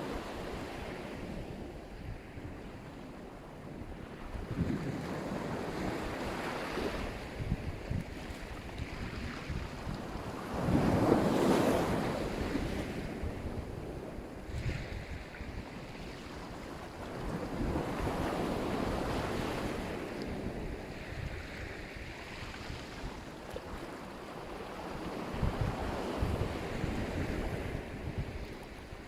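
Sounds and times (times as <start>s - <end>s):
waves breaking on shore: 0.0s - 29.0s
wind buffeting microphone: 0.0s - 29.0s.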